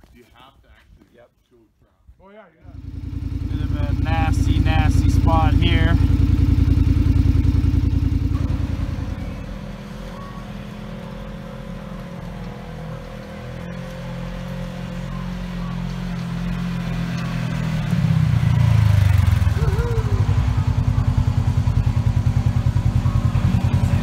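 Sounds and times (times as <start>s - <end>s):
utility vehicle engine running: 2.7s - 24.0s.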